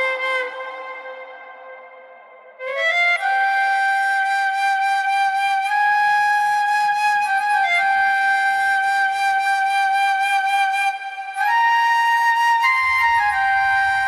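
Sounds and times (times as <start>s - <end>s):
flute-like lead holding long note: 0.0s - 14.0s.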